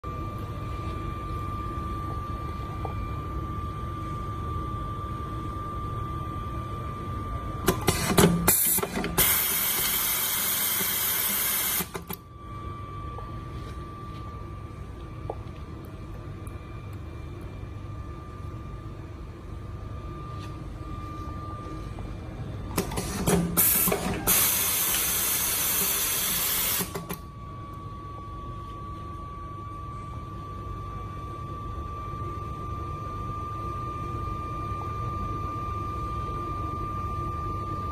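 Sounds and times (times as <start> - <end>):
machine hum with faint whine: 0.0 - 37.9.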